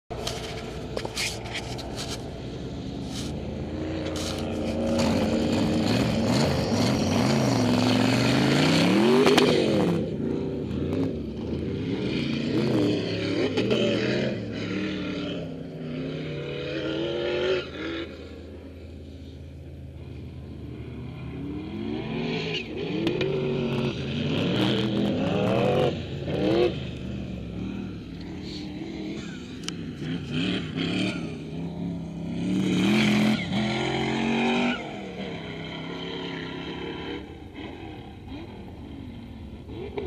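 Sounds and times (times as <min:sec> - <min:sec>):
sand buggy engine revving: 0:00.1 - 0:40.0.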